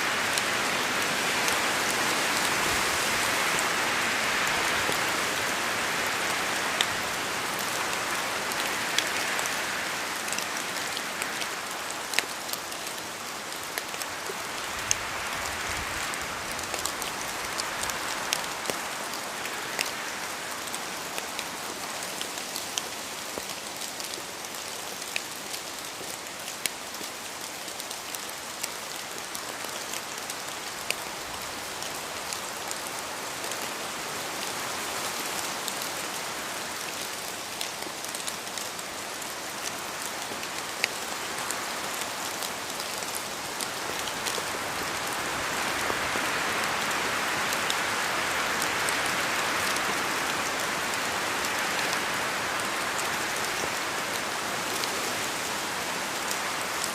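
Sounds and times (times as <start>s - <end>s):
rain falling in forest: 0.0s - 56.9s.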